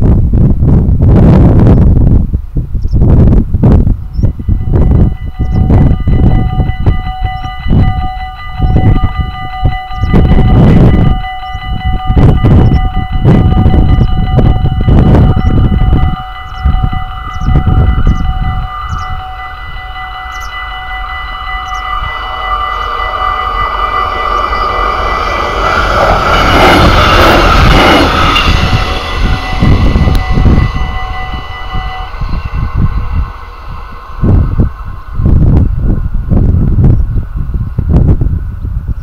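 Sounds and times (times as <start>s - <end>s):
wind buffeting microphone: 0.0s - 39.0s
level-crossing warning bell: 4.3s - 38.0s
diesel railcar passing: 4.3s - 39.0s.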